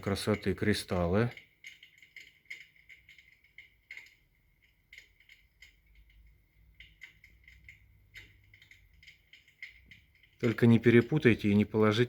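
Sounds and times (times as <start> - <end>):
electric fireplace crackling effect: 0.0 - 12.0.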